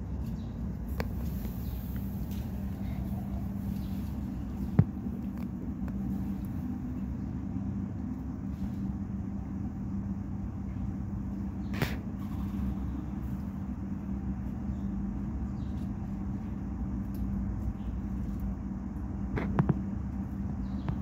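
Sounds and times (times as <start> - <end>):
constant hum: 0.0 - 21.0
low background rumble: 0.0 - 21.0.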